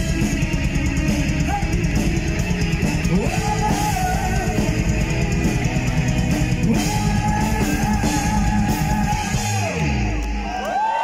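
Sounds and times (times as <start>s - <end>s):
live heavy metal band: 0.0s - 11.0s.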